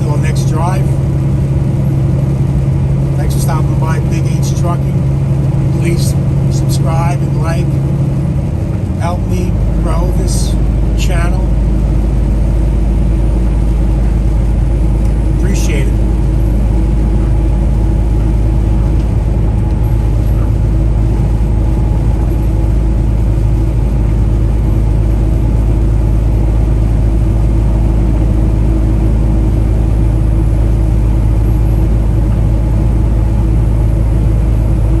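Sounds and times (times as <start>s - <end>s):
diesel truck engine rumbling: 0.0s - 35.0s.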